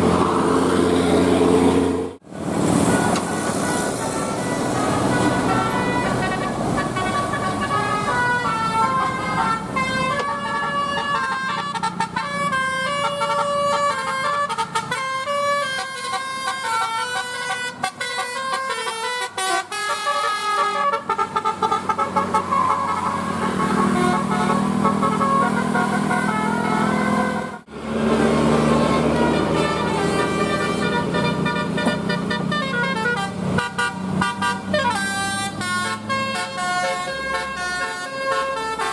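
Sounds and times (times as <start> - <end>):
engine and traffic noise: 0.0 - 38.9
bus musical horn playing a tune: 2.8 - 38.9.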